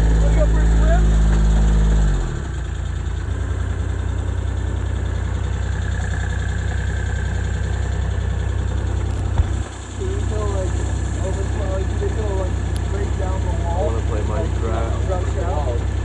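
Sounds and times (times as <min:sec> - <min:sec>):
engine idling hum: 0:00.0 - 0:16.0.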